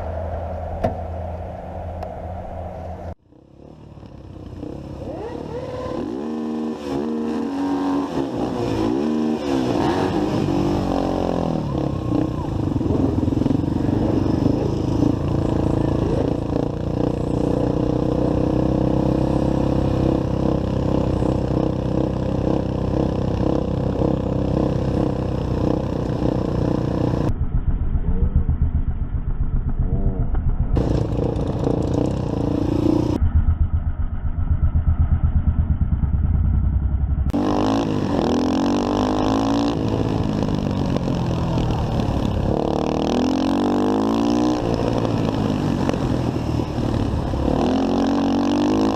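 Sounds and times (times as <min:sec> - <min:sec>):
motorcycle engine revving: 0:03.2 - 0:48.9.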